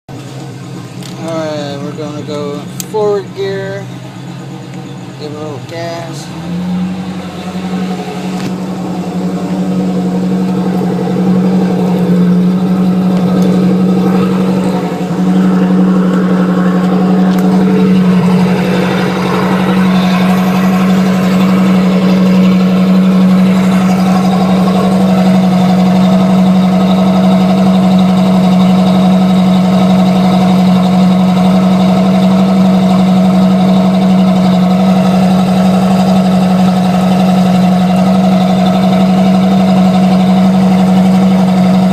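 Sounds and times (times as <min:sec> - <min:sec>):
boat motor droning: 0:00.1 - 0:41.9.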